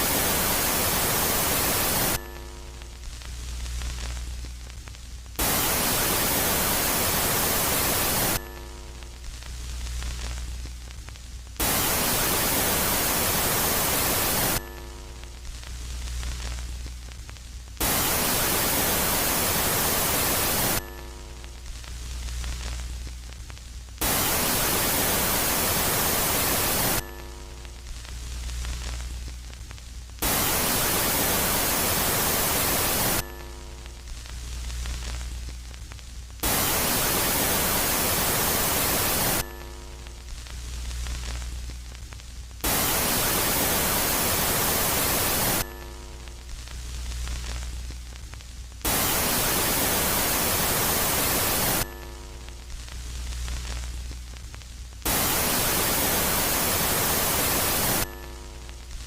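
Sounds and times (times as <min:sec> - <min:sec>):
synthesized static hiss: 0:00.0 - 0:59.0.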